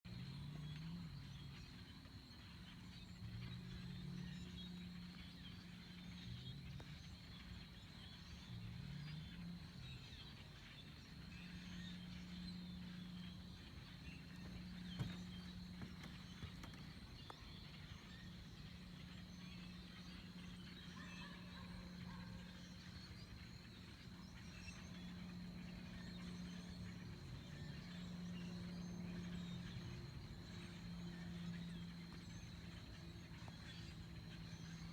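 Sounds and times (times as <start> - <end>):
low steady hum: 0.1 - 34.9
small birds chirping: 0.1 - 34.9.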